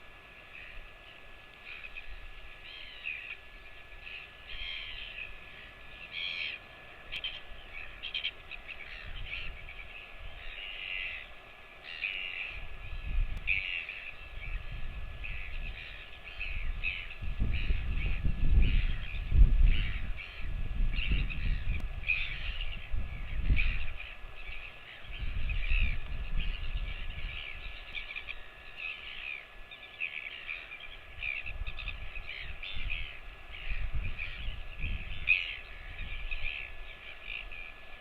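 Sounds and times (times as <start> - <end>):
birds making harsh calls: 1.6 - 38.0.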